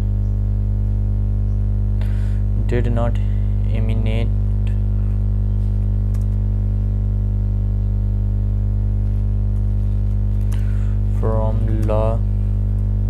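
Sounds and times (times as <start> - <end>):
loud electrical hum: 0.0 - 13.0.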